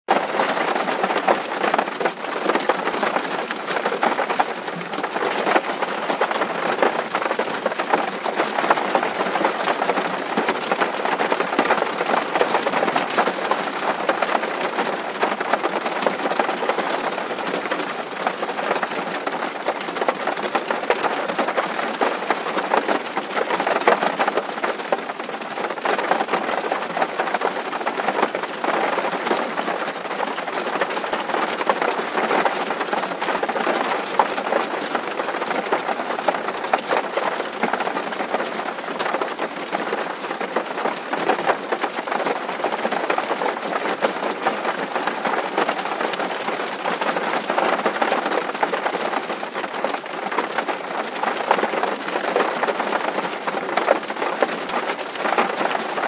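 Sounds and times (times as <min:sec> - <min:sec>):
rain on a tin roof: 0:00.0 - 0:56.0.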